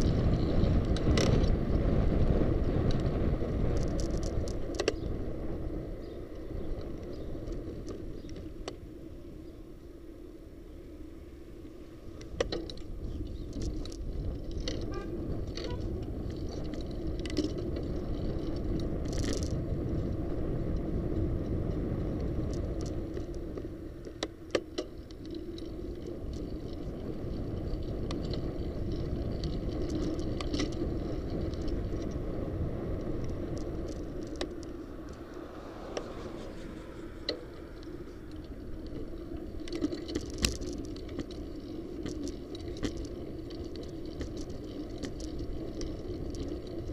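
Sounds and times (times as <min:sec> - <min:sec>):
bike clicks and rattles: 0:00.0 - 0:09.0, 0:12.0 - 0:46.9
wind and road noise: 0:00.0 - 0:46.9.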